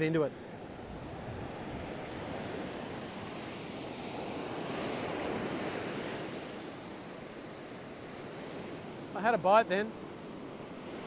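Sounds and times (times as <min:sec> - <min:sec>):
ocean surf on sandy beach: 0:00.0 - 0:11.0.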